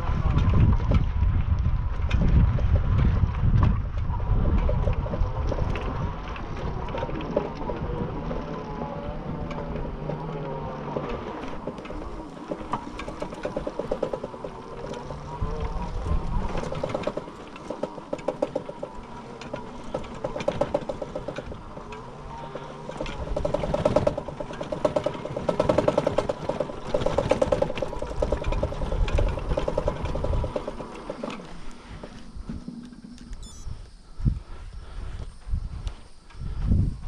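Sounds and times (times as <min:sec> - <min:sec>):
bike knocking and rattling: 0:00.0 - 0:37.0
e-bike tyre and drive buzz: 0:00.0 - 0:37.0.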